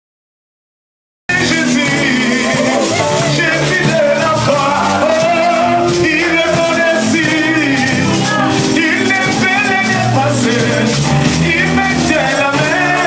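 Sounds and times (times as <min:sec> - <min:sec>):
voices singing worship song: 0:01.3 - 0:13.0.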